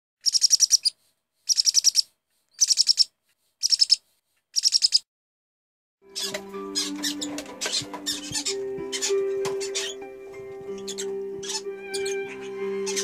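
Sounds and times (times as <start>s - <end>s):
bird chirping trills: 0.2s - 4.0s, 4.6s - 5.0s, 6.1s - 13.0s.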